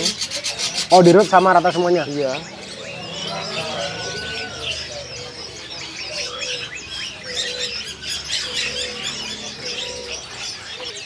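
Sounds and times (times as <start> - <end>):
doves cooing: 0.0 - 11.0
songbirds chirping and twittering: 0.0 - 11.0.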